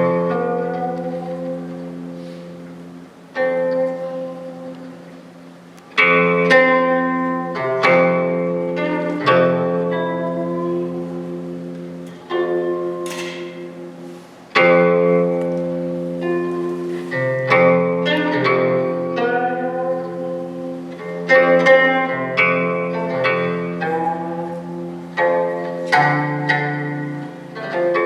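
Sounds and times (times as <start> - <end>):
plucked string instrument: 0.0 - 28.0.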